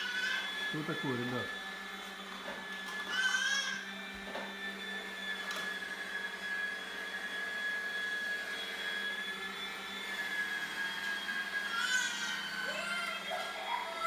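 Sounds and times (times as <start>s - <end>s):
electric grinder motor whine: 0.0s - 14.0s.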